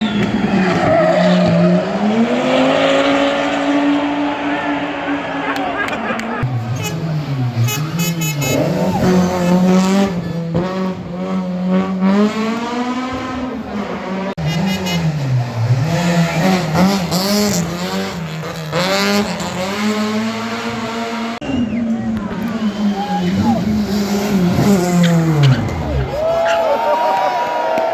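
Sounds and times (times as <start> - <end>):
rally car engines revving: 0.0 - 27.2.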